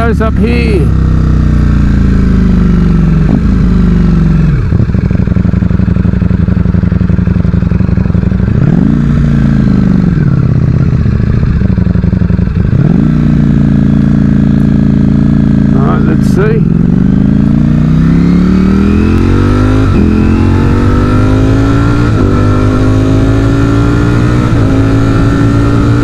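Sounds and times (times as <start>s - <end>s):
motorcycle engine onboard: 0.0s - 26.0s.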